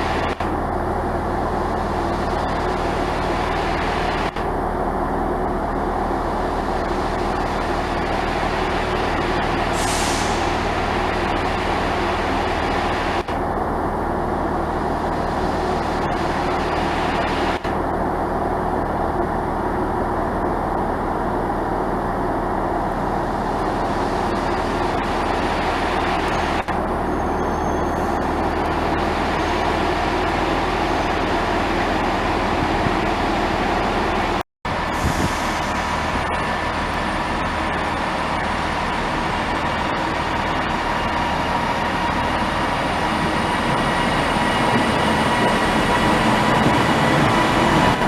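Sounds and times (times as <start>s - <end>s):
train mechanical drone: 0.0s - 48.0s.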